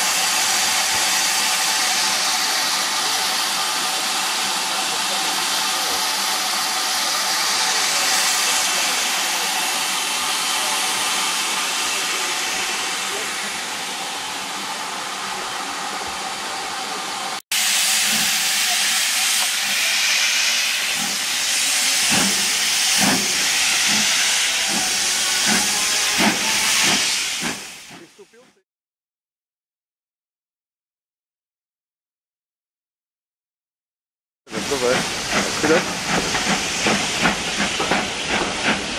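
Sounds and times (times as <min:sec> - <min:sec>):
steam hissing: 0:00.0 - 0:28.4, 0:34.5 - 0:38.9.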